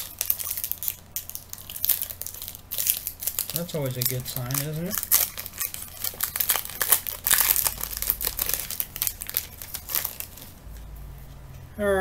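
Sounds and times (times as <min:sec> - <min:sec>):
wrapper crinkling: 0:00.0 - 0:10.8.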